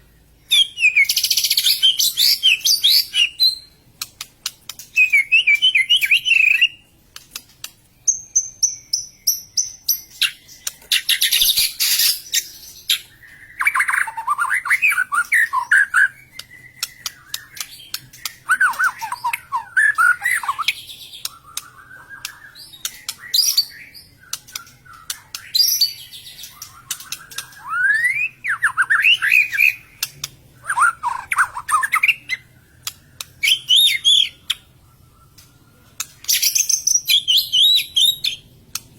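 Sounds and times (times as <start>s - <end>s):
bird singing whistled phrases: 0.4s - 3.8s, 4.9s - 6.8s, 8.4s - 35.4s, 36.3s - 38.5s.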